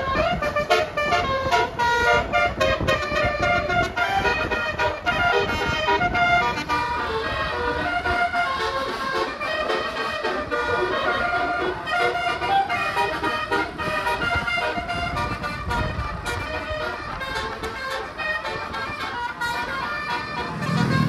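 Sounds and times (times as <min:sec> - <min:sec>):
engine and road rumble: 0:00.0 - 0:21.0
multi-tone bus air horn tune: 0:00.0 - 0:21.0.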